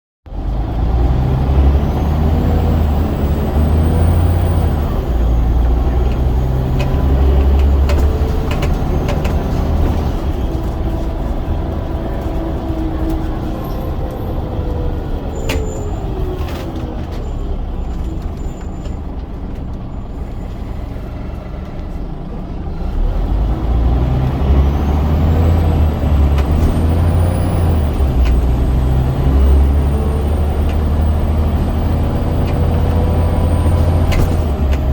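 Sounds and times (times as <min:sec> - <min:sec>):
bus diesel engine pulling: 0:00.3 - 0:34.9.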